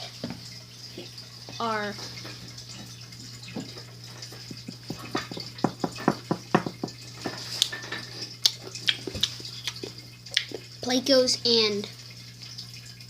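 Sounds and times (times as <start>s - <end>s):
aquarium water dripping: 0.0s - 13.0s.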